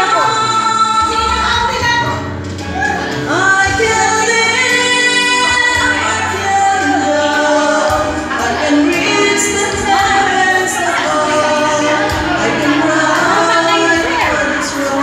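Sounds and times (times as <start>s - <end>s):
woman singing into a microphone: 0.0s - 1.9s, 3.2s - 15.0s
karaoke backing music: 0.0s - 15.0s.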